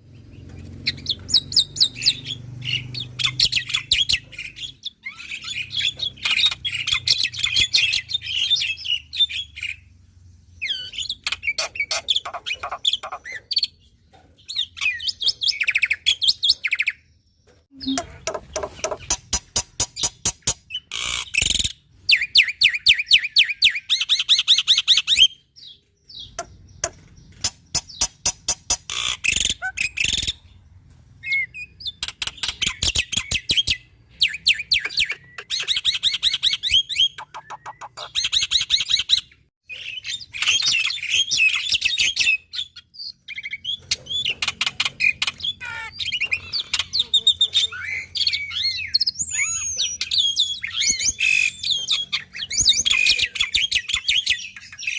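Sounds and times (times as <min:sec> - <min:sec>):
starling singing: 0:00.0 - 0:09.9, 0:10.6 - 0:13.8, 0:17.7 - 0:30.5, 0:31.2 - 0:54.9.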